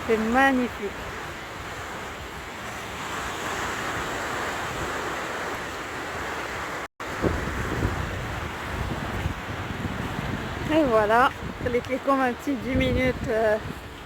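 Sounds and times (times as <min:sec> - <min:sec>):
ocean surf washing onto beach: 0:00.0 - 0:14.0
wind buffeting microphone: 0:00.0 - 0:14.0.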